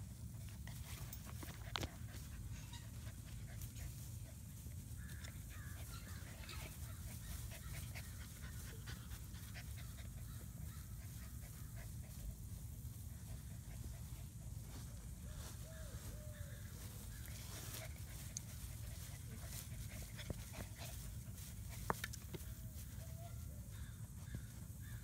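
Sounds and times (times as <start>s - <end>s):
puppies panting: 0.0s - 24.8s
small ticks and rustles: 0.0s - 25.0s
steady low rumble: 0.0s - 25.0s.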